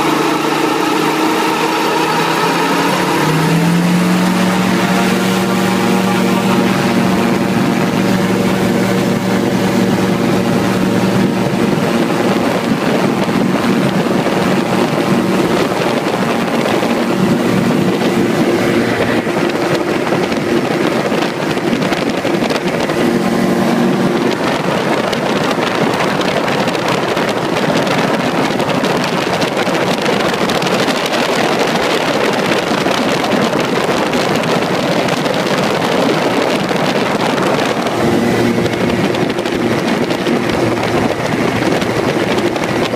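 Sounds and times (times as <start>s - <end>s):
gyrocopter engine and propeller: 0.0s - 42.9s
wind rushing over microphone: 0.0s - 42.9s.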